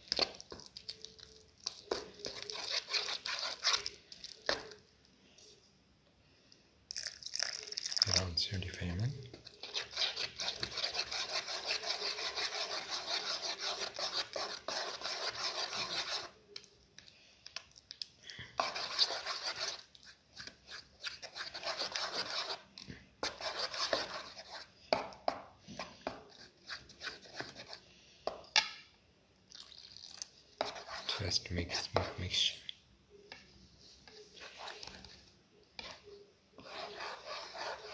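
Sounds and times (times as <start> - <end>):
spoon stirring batter in bowl: 0.0 - 4.9, 6.9 - 28.8, 29.5 - 37.9.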